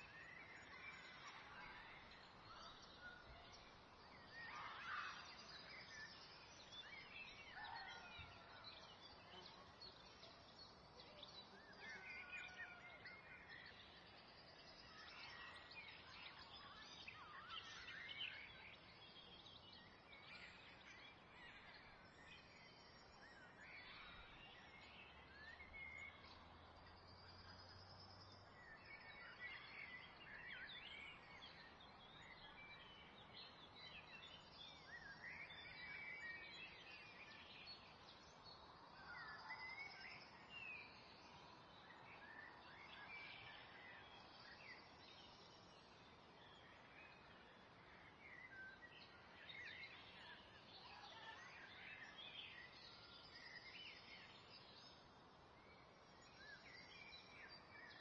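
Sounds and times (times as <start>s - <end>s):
faint birds chirping: 0.0s - 58.0s
low steady hiss: 0.0s - 58.0s.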